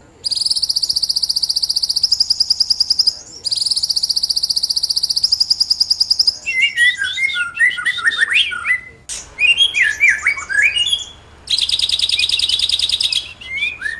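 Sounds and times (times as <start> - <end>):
songbird singing: 0.0 - 13.9.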